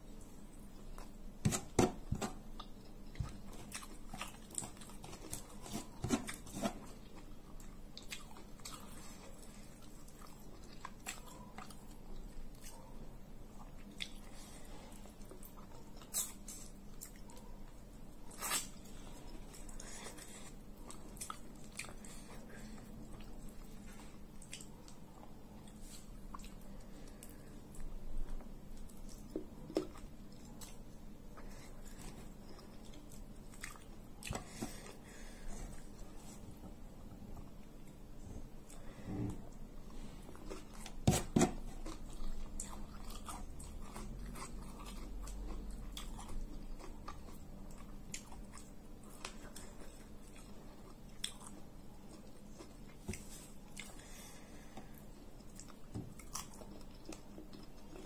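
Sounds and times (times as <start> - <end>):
person chewing with wet smacks: 0.2 - 58.0.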